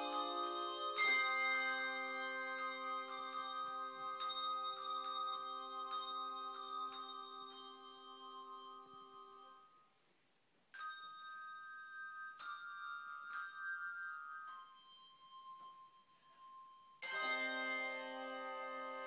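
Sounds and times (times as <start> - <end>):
handbell chord: 0.0 - 9.9, 10.8 - 19.0
handbell notes ringing: 0.0 - 9.9, 10.8 - 19.0.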